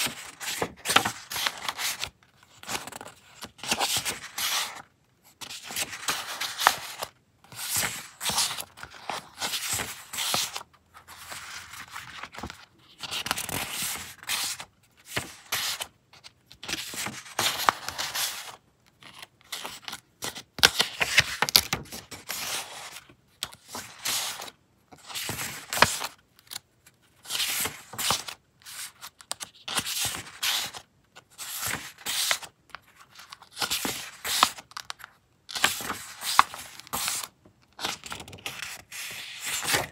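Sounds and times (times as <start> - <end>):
paper rustling: 0.0 - 4.8, 5.4 - 26.6, 27.2 - 39.9.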